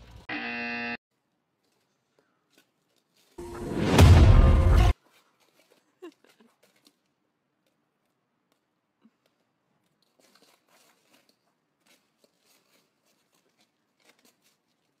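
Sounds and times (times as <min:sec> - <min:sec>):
faint crunches and rustles: 0:01.2 - 0:03.4, 0:05.0 - 0:15.0.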